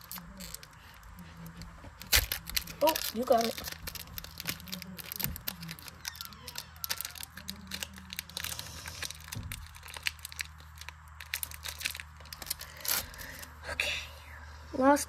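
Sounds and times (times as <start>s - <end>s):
foil wrapper crinkling and tearing: 0.0s - 13.5s.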